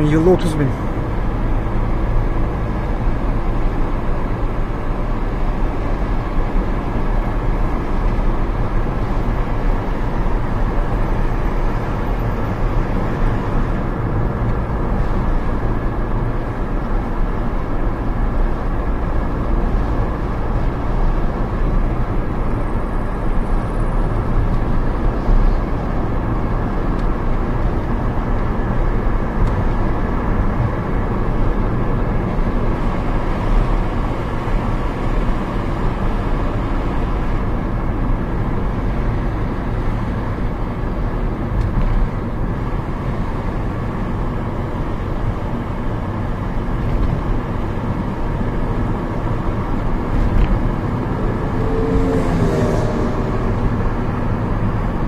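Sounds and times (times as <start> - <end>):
car engine hum: 0.0 - 55.0.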